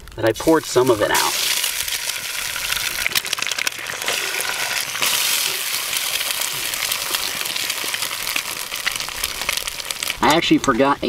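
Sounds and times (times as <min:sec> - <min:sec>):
eggs sizzling in grease: 0:00.0 - 0:11.0
grease popping and crackling: 0:00.0 - 0:11.0.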